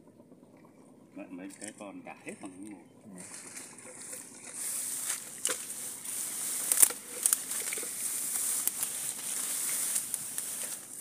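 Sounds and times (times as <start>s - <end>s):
steady high hiss: 1.3s - 11.0s
leaves and stems rustling: 1.5s - 11.0s.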